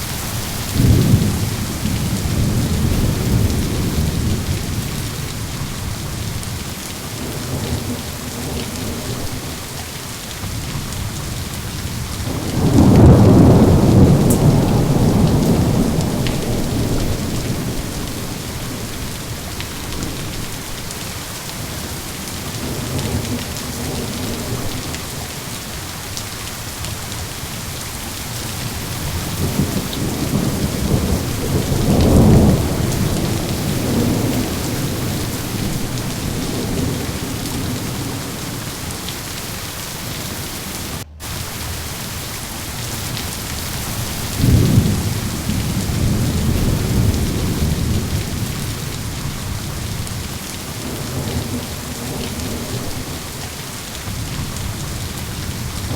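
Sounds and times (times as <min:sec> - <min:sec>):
thunder rumbling: 0:00.0 - 0:09.8, 0:10.4 - 0:26.1, 0:26.9 - 0:55.9
steady rain: 0:00.0 - 0:55.9.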